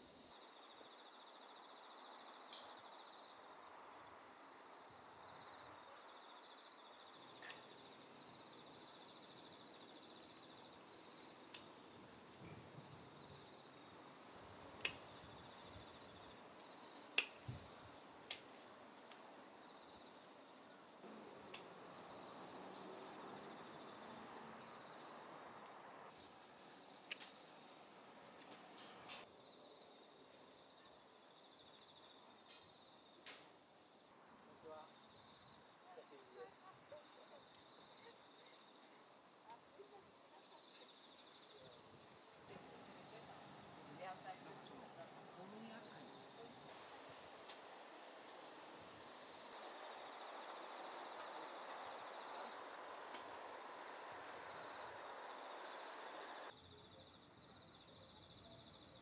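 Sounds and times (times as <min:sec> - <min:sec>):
crickets trilling: 0:00.0 - 0:59.0
insects chirping: 0:00.0 - 0:59.0.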